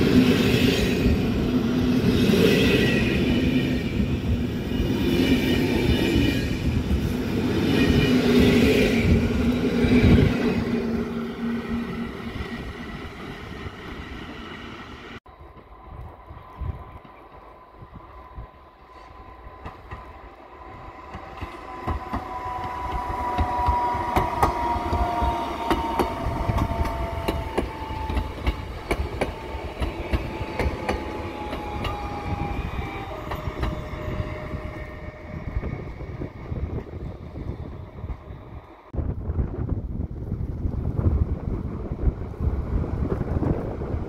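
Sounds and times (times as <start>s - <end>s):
train rumble: 0.0s - 44.0s.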